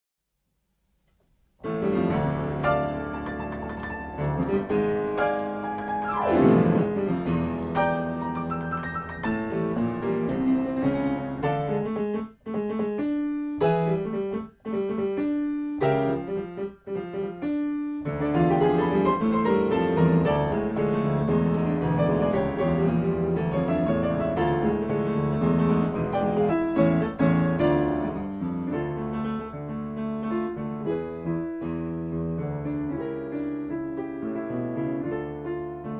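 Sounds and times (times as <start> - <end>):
solo piano music: 1.6 - 35.9.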